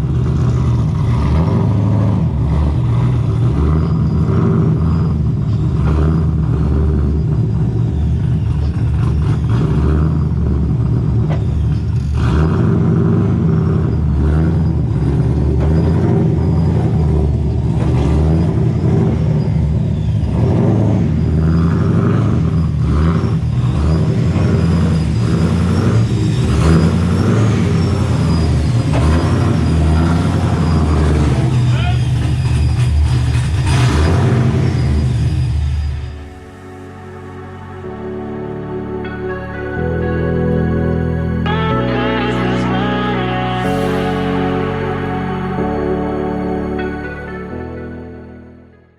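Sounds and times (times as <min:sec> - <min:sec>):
car engine running under load: 0:00.0 - 0:48.2.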